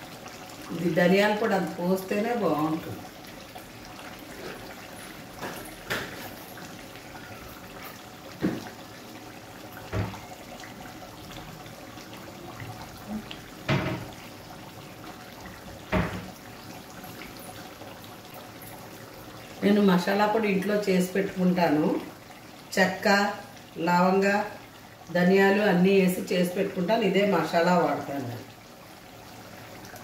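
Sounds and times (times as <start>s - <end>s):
curry simmering with low hiss: 0.0s - 30.0s.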